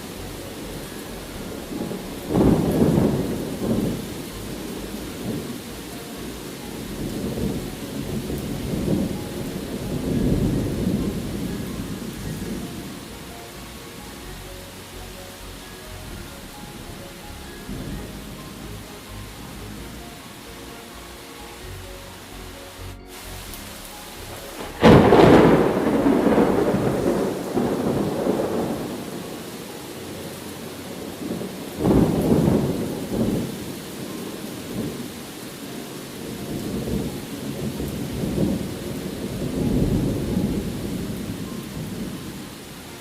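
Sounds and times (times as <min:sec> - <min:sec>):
thunder rolling: 0:00.0 - 0:20.2, 0:23.1 - 0:35.3, 0:36.2 - 0:43.0
steady rain: 0:00.0 - 0:43.0.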